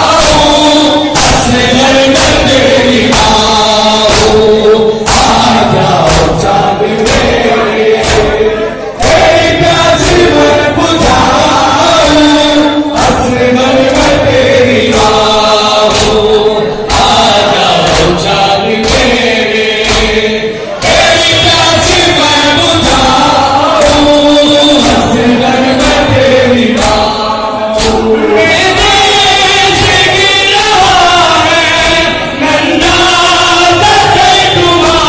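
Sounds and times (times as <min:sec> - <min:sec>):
crowd of men chanting: 0:00.0 - 0:35.0
men singing through loudspeakers: 0:00.0 - 0:35.0.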